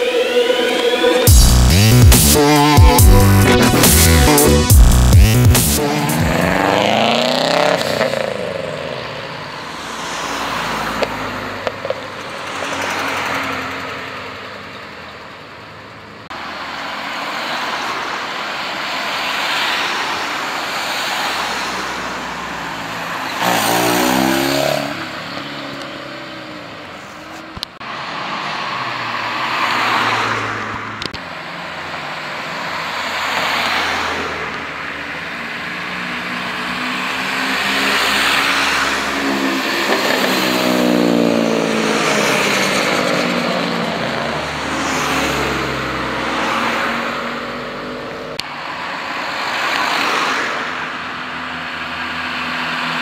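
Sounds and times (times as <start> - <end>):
cars driving past: 3.6 - 53.0.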